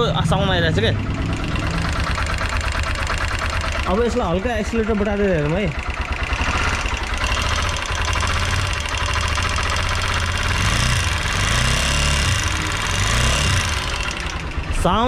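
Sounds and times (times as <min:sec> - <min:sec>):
fast engine ticking: 0:00.0 - 0:15.0
motorcycle engine revving: 0:00.0 - 0:15.0.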